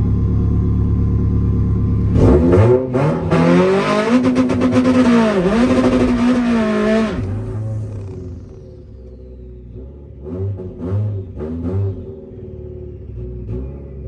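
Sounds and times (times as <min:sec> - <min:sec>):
car engine accelerating hard: 0:01.9 - 0:14.0.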